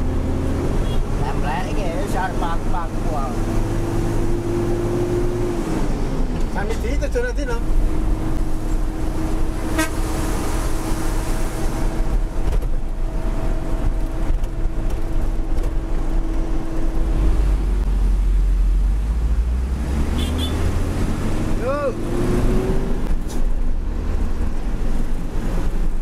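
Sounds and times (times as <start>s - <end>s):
truck engine and road noise in cab: 0.0s - 26.0s.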